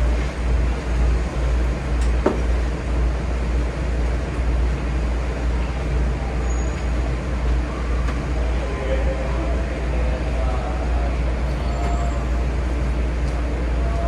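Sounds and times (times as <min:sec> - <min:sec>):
train equipment rumble and hiss: 0:00.0 - 0:14.0.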